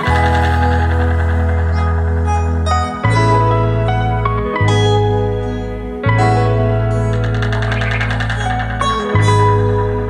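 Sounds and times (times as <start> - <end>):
calm instrumental music: 0.0 - 10.0
steady bass: 0.0 - 10.0.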